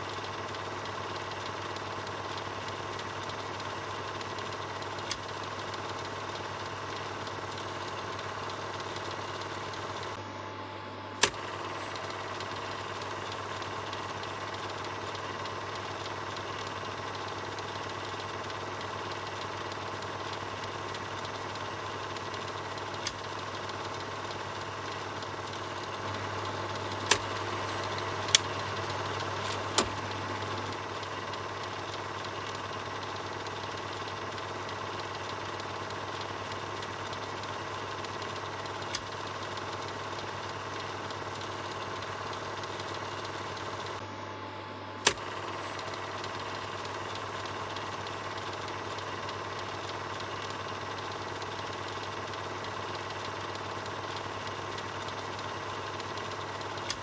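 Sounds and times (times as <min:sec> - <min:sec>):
sharp clicks: 0:00.0 - 0:10.2, 0:11.2 - 0:44.0, 0:45.0 - 0:57.0
film projector whirring: 0:00.0 - 0:57.0.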